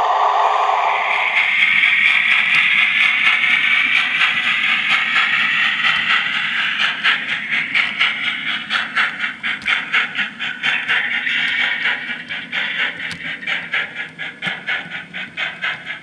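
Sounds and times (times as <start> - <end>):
steam hiss from loudspeaker: 0.0 - 16.0
steam locomotive exhaust chuffs: 0.0 - 16.0.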